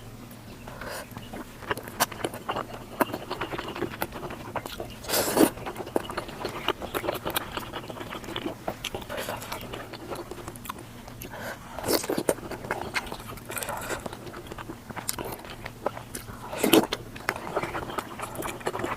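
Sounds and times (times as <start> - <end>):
chewing and biting: 0.6 - 18.9.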